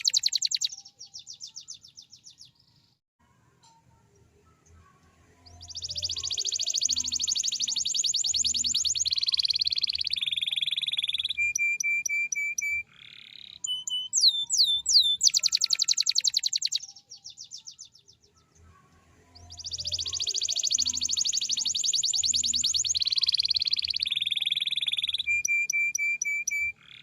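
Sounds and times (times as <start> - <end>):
canary singing: 0.0 - 2.7, 4.4 - 27.0.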